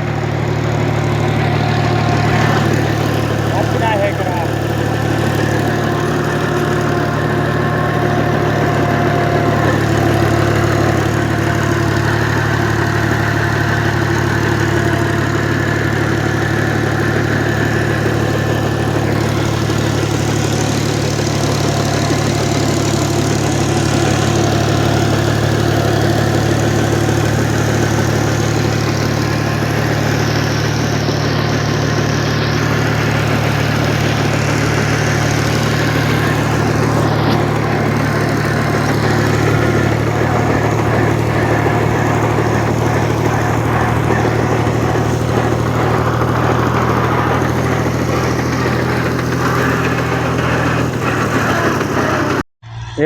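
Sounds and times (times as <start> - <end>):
tractor engine droning: 0.0 - 53.0.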